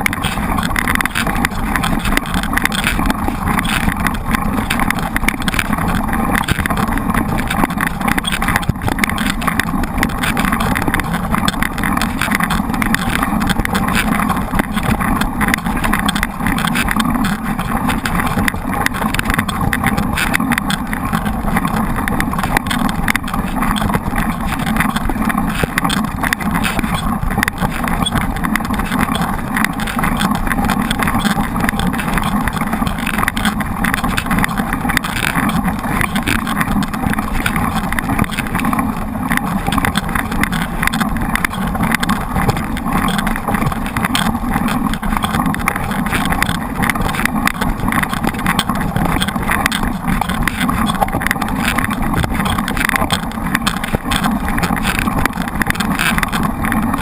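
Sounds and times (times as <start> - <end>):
bike rattling and knocking: 0.0 - 57.0
tyres on rough trail: 0.0 - 57.0.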